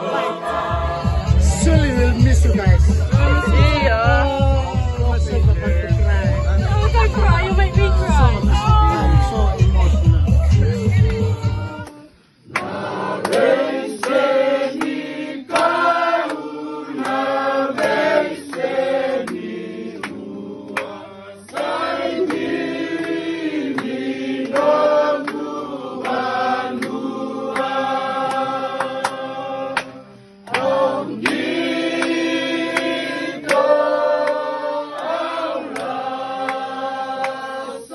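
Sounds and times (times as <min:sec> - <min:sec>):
group singing in harmony: 0:00.0 - 0:37.9
recorded song: 0:00.0 - 0:37.9.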